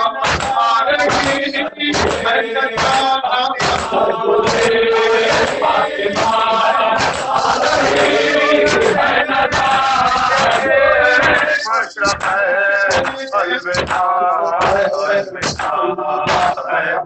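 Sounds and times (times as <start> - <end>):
man chanting into microphone: 0.0 - 17.0
men beating their chests: 0.0 - 17.0.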